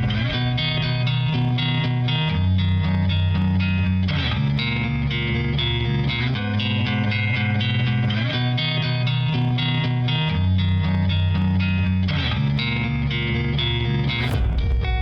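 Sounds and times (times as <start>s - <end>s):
guitar-driven song with beat: 0.0s - 15.0s.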